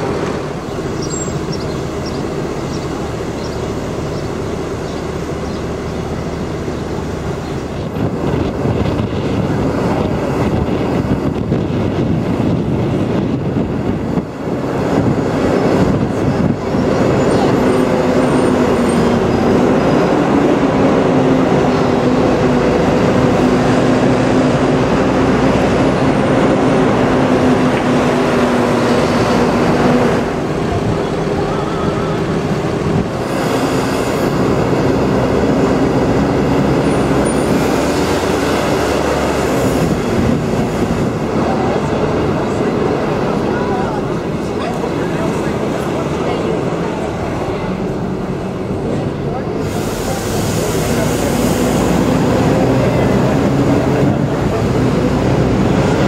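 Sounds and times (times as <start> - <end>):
bus engine hum: 0.0 - 56.0
city traffic: 0.0 - 56.0
road and wind noise: 0.0 - 56.0
tyres on road: 0.0 - 56.0.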